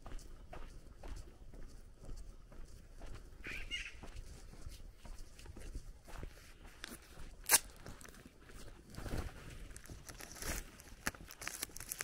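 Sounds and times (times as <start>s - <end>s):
footsteps crunching on dirt: 0.0s - 12.0s.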